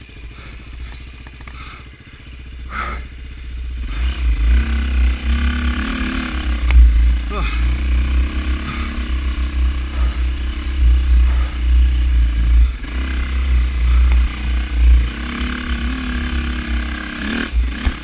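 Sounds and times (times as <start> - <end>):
bike rattling: 0.0 - 18.0
dirt bike engine revving: 0.0 - 18.0.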